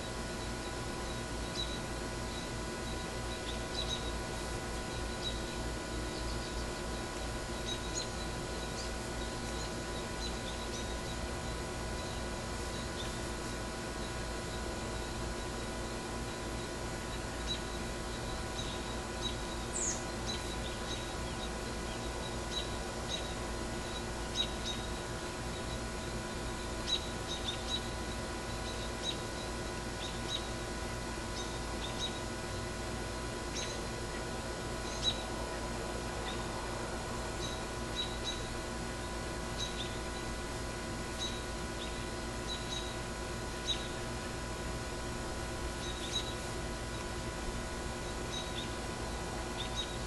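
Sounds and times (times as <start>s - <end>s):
steady hiss with faint hum: 0.0s - 50.0s.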